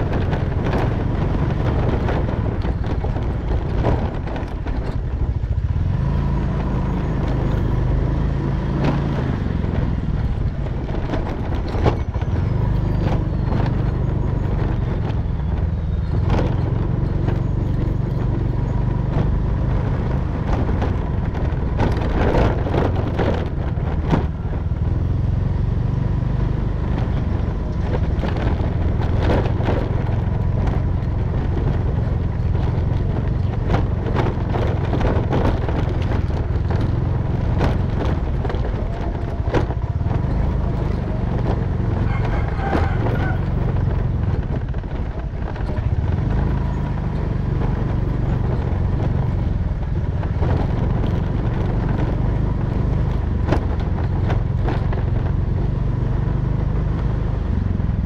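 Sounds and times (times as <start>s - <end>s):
knocks and rattles of bike: 0.0s - 58.0s
motorcycle engine running: 0.0s - 58.0s.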